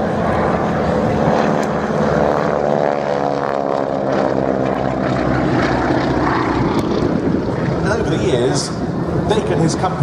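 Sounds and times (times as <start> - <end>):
biplane propeller engines droning: 0.0 - 10.0.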